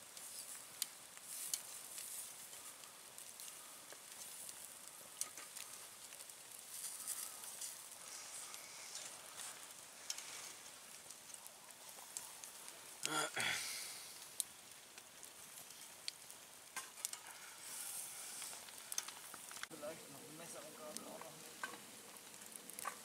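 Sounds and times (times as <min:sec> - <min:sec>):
meat sizzling on charcoal grill: 0:00.0 - 0:23.0.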